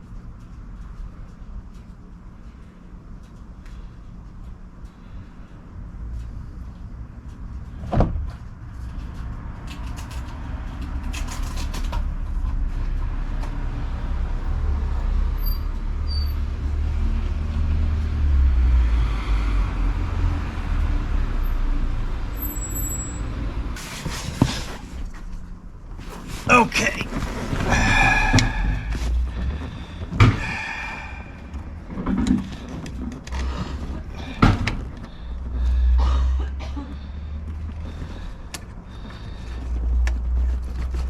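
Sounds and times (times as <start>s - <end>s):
vehicle rumble passing: 3.8s - 41.0s.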